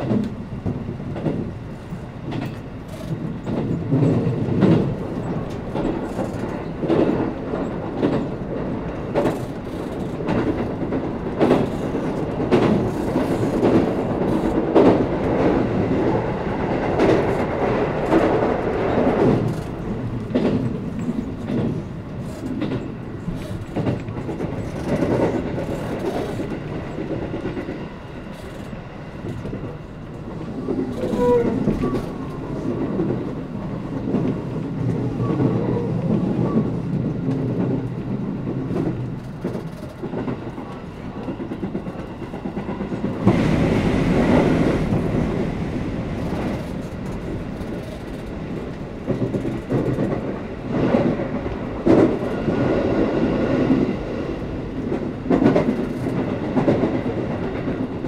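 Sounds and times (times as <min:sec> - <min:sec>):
rail joints clickety-clack: 0:00.0 - 0:58.0
train wheels rumbling on rails: 0:00.0 - 0:58.0.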